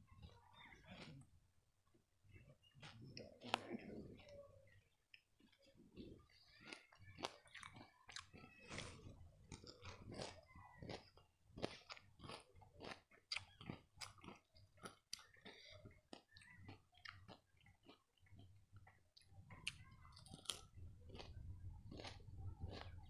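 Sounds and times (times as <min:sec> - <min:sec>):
person chewing crunchy sweet: 0:00.1 - 0:01.3, 0:02.6 - 0:23.0.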